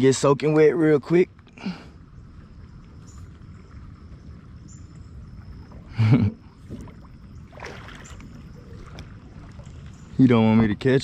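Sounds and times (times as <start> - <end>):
water splashing against a kayak: 1.0 - 10.8.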